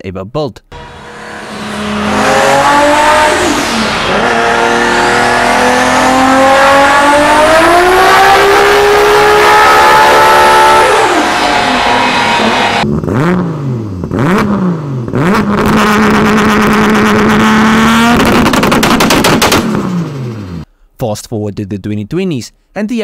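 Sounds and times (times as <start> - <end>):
car engine revving under load: 0.7 - 20.7
high turbo whine: 0.7 - 20.7.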